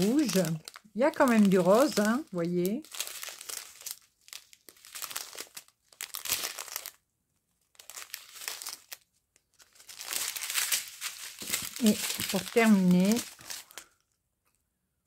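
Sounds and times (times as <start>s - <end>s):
plastic bags crinkling: 0.0s - 14.1s.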